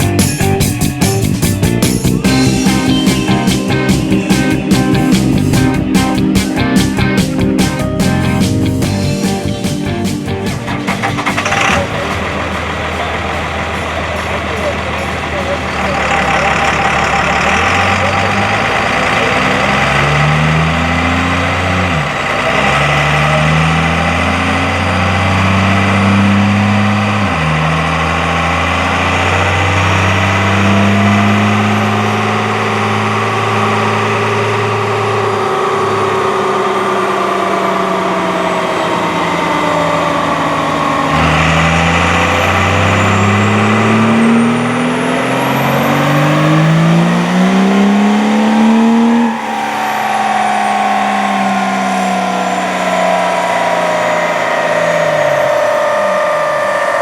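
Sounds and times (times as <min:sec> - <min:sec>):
vehicle engine accelerating: 0:00.0 - 0:57.0.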